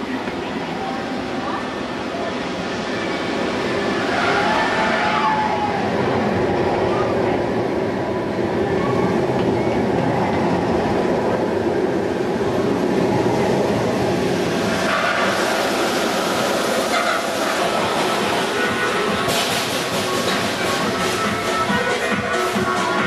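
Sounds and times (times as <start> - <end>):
roller coaster rumble and clatter: 0.0 - 23.0.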